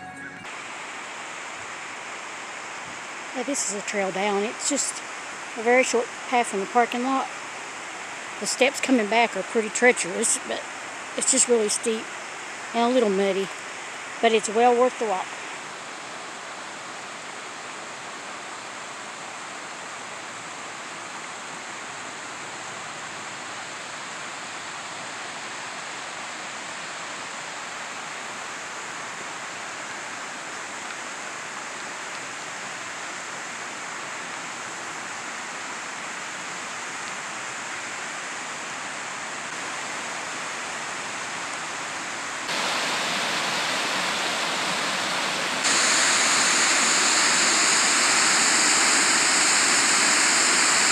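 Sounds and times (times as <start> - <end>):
creek water rushing over rocks: 0.4 - 50.9.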